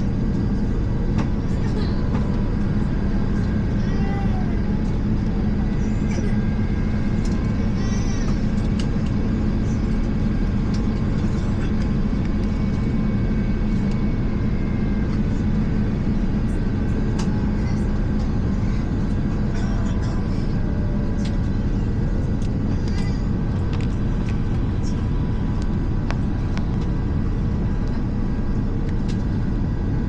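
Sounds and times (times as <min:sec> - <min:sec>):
jet engines rumbling in cabin: 0:00.0 - 0:30.0.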